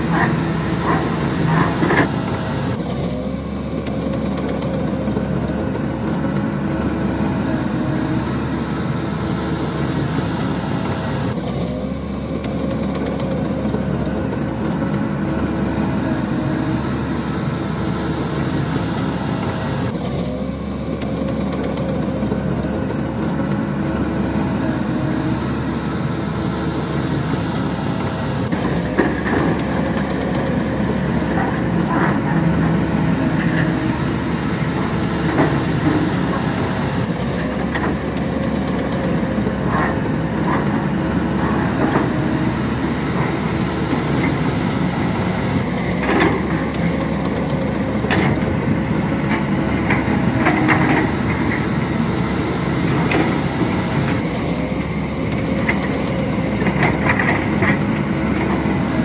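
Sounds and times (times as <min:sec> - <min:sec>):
diesel machinery engine droning: 0:00.0 - 0:59.0.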